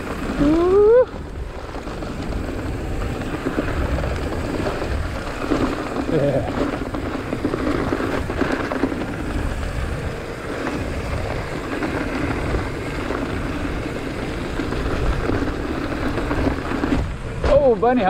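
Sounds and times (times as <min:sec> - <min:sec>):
tyres rolling over dirt: 0:00.0 - 0:18.0
wind on microphone: 0:00.0 - 0:18.0.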